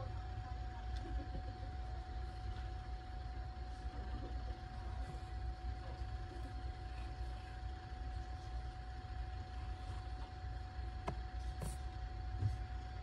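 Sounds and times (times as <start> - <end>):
constant whine: 0.0 - 13.0.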